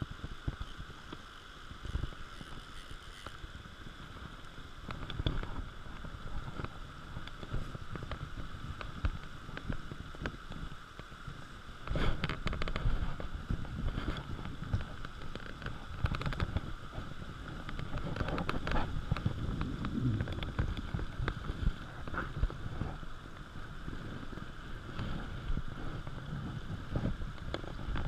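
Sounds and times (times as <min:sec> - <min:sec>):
small clicks and crackles: 0:00.0 - 0:28.0
steady hiss: 0:00.0 - 0:28.0
wind buffeting microphone: 0:03.4 - 0:28.0.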